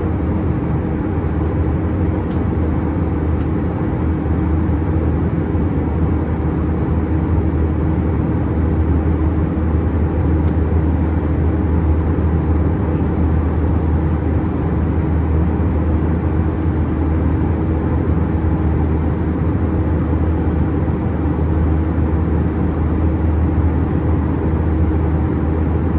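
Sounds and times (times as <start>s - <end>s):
jet engines droning: 0.0s - 25.9s.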